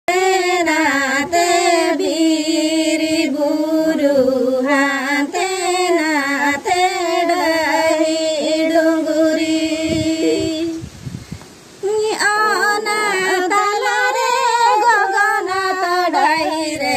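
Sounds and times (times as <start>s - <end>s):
women singing folk song: 0.1s - 11.1s, 11.7s - 16.9s.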